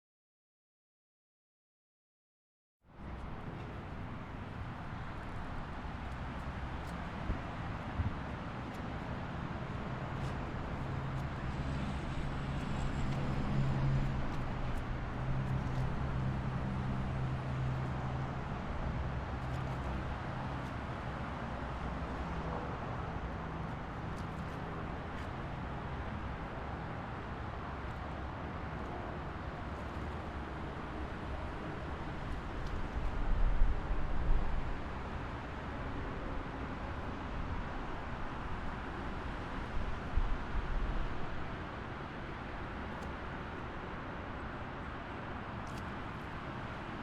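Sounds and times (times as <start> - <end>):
road and tyre noise: 2.8 - 47.0.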